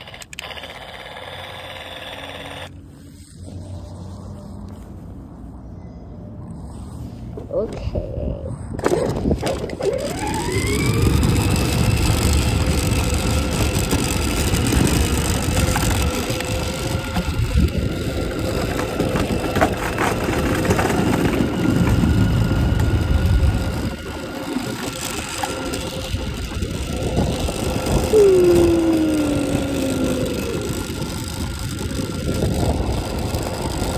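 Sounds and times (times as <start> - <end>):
toy vehicle motors whining: 0.0 - 4.4, 8.8 - 33.9
wheels rumbling on asphalt: 0.0 - 33.9.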